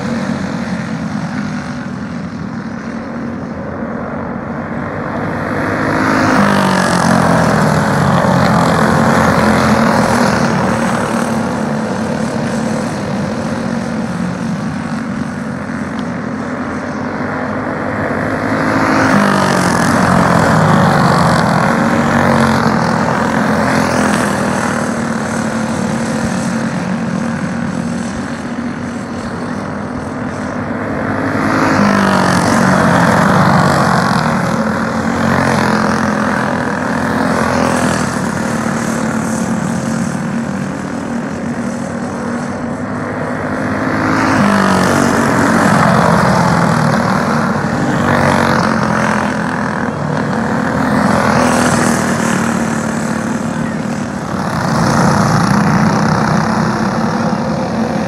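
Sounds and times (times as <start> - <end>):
go-kart engines buzzing: 0.0 - 58.0.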